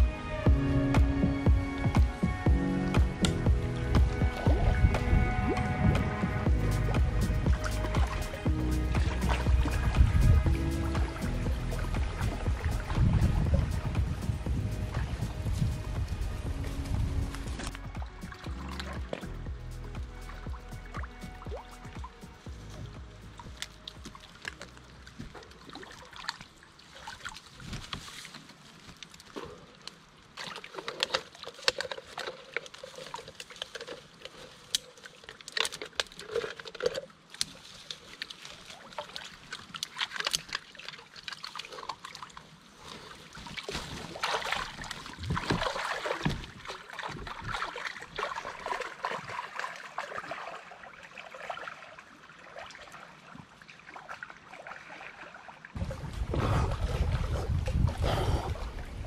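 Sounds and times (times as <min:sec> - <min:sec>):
person swimming splashing: 0:02.0 - 0:19.4, 0:20.0 - 0:59.0.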